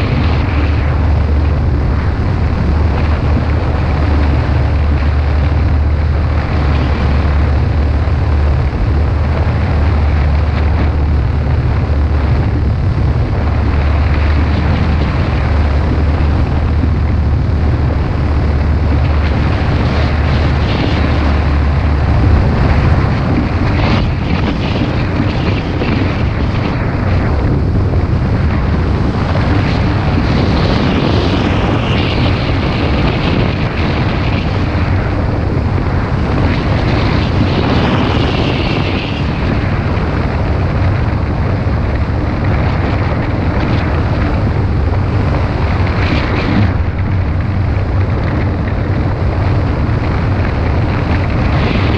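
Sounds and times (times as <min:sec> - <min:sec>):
propeller motor drone: 0:00.0 - 0:51.9
wind rushing over microphone: 0:00.0 - 0:51.9.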